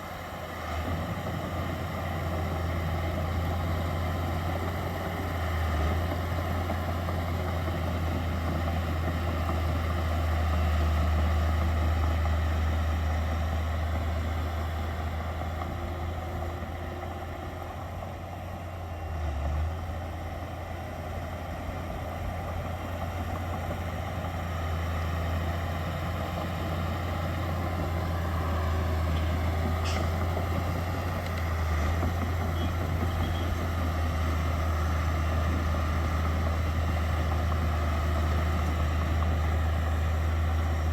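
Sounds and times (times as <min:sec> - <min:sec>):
heavy machinery diesel engines: 0:00.0 - 0:40.9.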